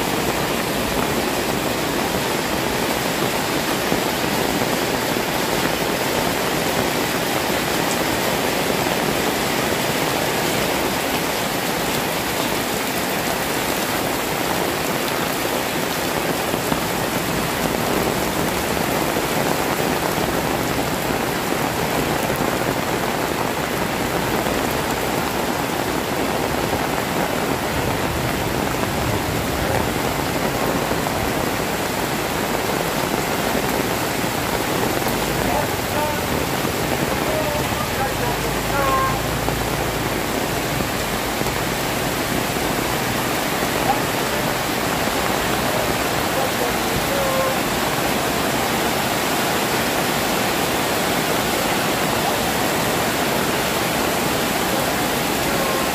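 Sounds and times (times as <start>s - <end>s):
heavy rain on pavement and roofs: 0.0s - 55.9s.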